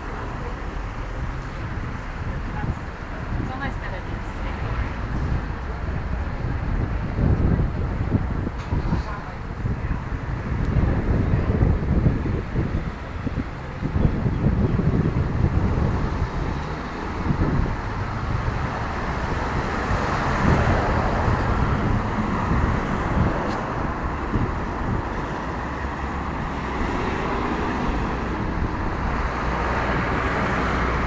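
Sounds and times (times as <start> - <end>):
traffic passing on street: 0.0 - 31.0.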